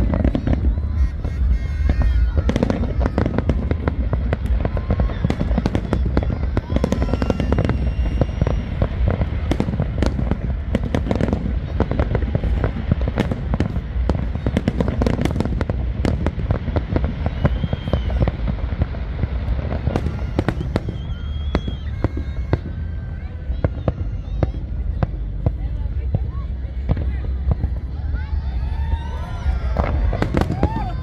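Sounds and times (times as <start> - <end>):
deep rumble: 0.0 - 31.0
fireworks bangs and crackles: 0.0 - 31.0.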